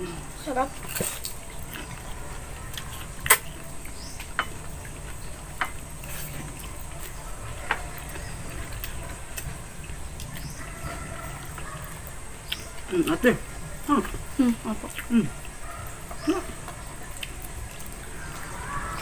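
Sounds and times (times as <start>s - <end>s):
eating clicks and smacks: 0.9s - 19.0s.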